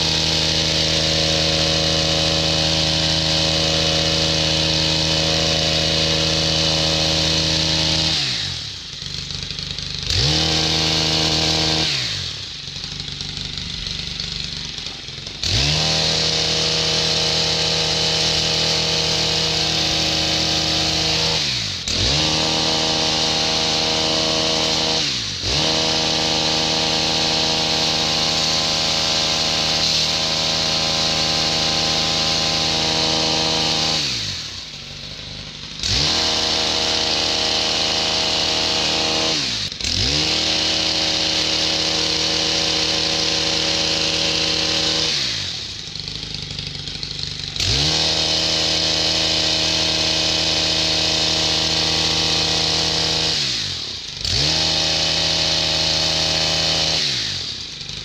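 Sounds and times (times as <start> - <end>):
hedge trimmer engine revving: 0.0 - 58.0.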